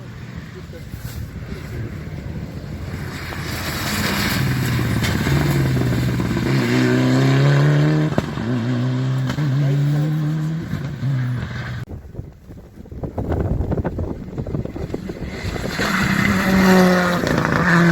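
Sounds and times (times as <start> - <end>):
rally car engine accelerating: 0.0 - 11.8, 14.2 - 17.9.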